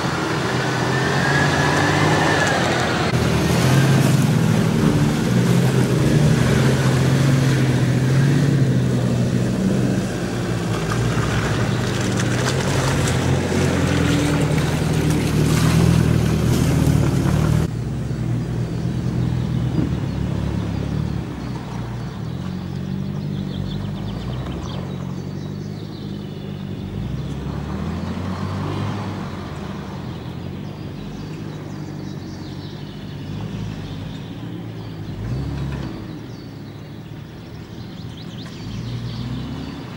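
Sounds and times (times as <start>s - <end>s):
off-road vehicle engines running: 0.0s - 39.9s.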